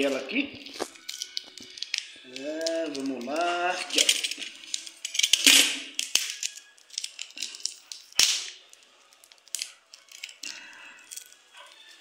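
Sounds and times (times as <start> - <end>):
plastic bag crinkling: 0.0 - 12.0
sharp plastic clicks and cracks: 0.7 - 10.8.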